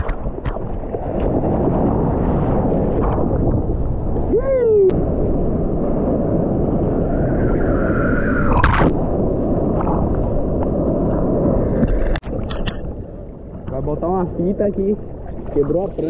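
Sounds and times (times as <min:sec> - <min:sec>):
surf water rushing and churning: 0:00.0 - 0:16.0.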